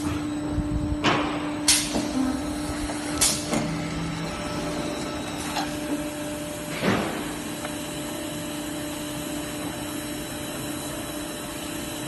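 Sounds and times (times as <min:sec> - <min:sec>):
laminating machine hum and whir: 0:00.0 - 0:12.0.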